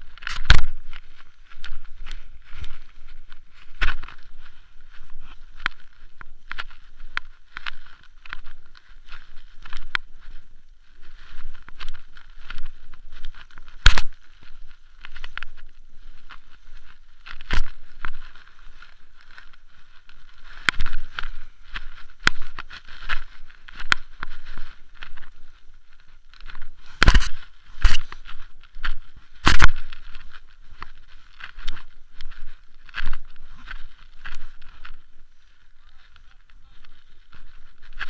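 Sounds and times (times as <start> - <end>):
bike and mount rattling: 0.0 - 38.0
bike rolling over rough trail: 0.0 - 38.0.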